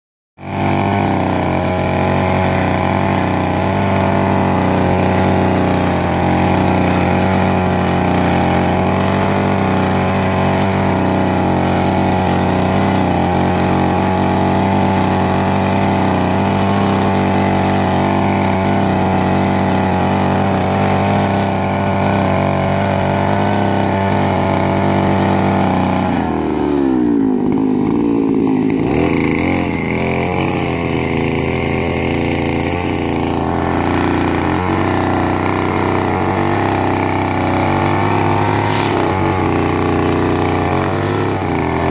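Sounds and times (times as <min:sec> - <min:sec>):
small tiller engine running: 0:00.4 - 0:41.9.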